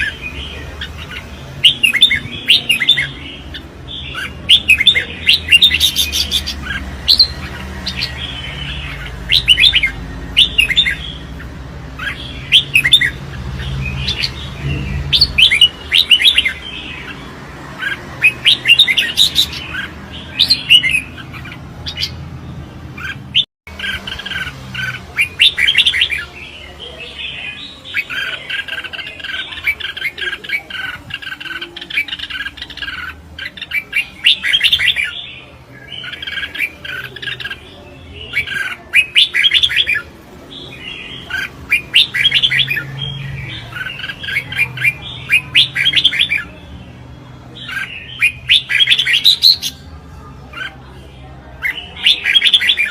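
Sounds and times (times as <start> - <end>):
bird singing chirping phrases: 0.0 - 52.9.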